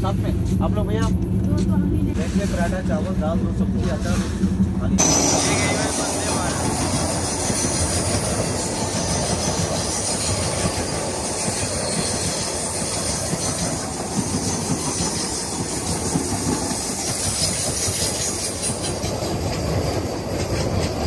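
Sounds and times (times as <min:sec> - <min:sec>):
train wheels clattering on rails: 0:00.4 - 0:21.0.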